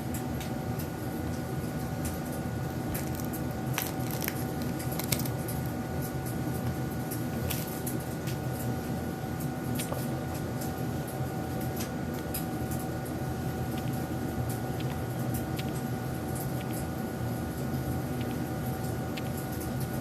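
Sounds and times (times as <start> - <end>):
machine hum with low rumble: 0.0 - 20.0.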